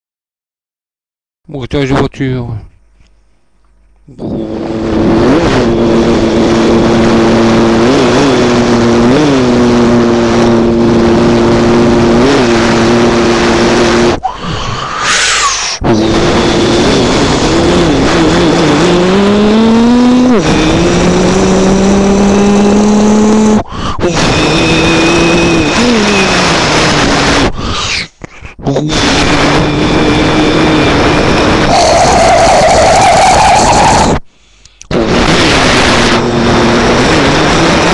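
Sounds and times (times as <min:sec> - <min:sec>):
person imitating car engine: 0:04.1 - 0:34.2, 0:34.8 - 0:37.9.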